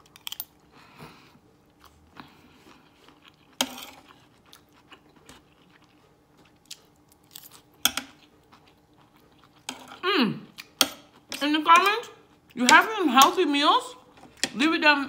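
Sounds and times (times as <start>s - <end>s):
chewing and crunching food: 0.0s - 14.5s.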